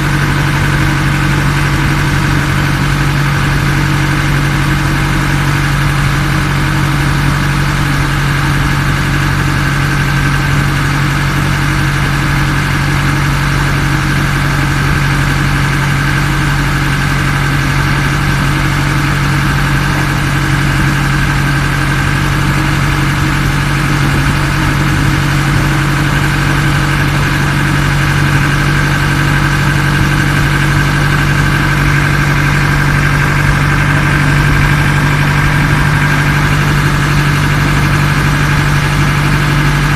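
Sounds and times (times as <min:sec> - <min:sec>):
ferry engine humming: 0:00.0 - 0:39.9.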